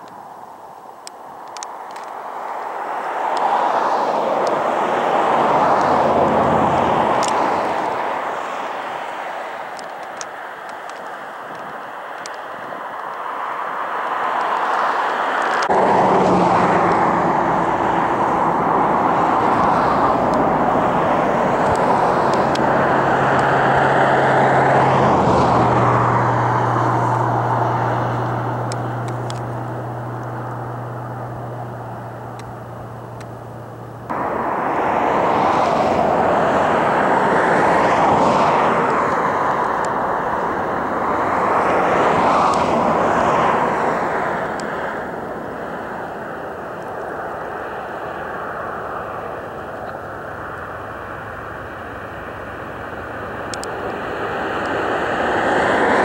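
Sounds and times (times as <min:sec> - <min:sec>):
aircraft engines at high power: 0:00.0 - 0:56.0
low propeller drone: 0:00.0 - 0:56.0.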